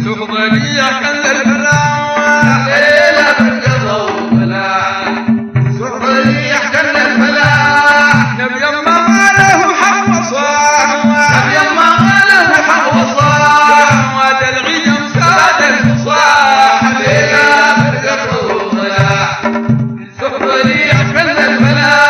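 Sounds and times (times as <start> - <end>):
deep drum beat: 0.0 - 22.0
man singing chanted melody: 0.0 - 22.0.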